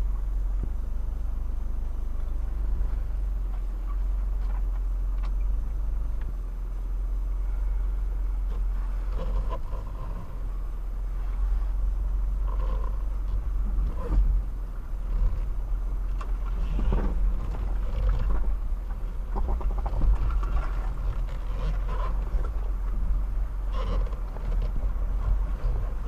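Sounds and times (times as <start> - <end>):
engine and drivetrain rumble: 0.0 - 26.0.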